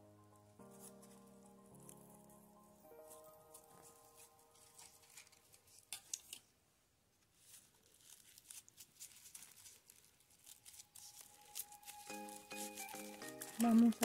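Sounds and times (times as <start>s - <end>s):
paper rustling and crinkling: 0.6s - 2.4s, 3.0s - 6.5s, 7.2s - 14.0s.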